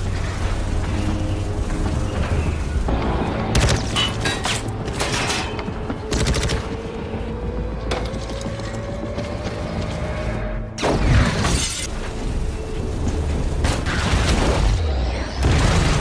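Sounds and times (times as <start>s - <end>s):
dramatic film score: 0.0s - 16.0s.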